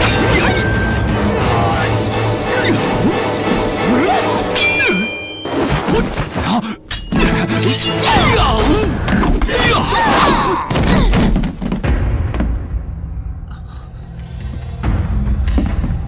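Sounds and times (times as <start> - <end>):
dramatic film music: 0.0 - 16.0.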